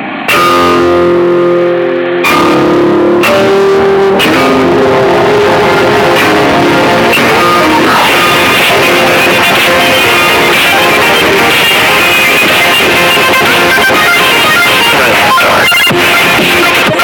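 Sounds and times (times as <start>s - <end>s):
guitar music: 0.0s - 17.0s.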